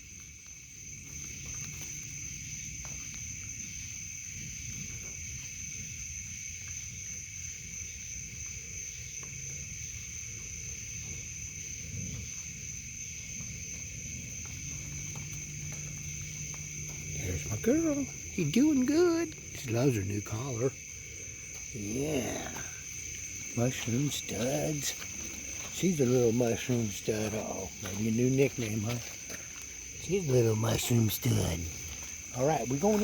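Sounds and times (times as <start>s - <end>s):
night insects and frogs trilling: 0.0s - 33.0s.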